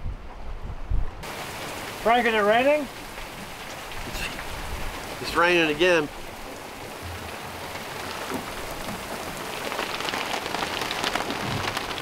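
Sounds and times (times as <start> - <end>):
rain falling on a boat: 1.2 - 12.0.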